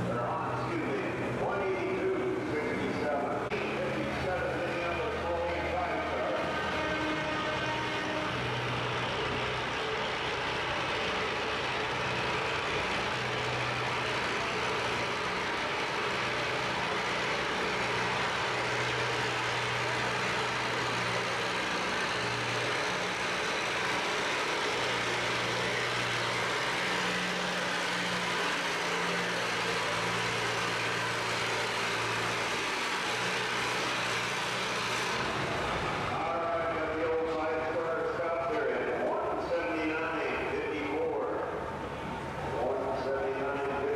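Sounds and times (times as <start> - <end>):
tractor engines running: 0.0 - 43.9.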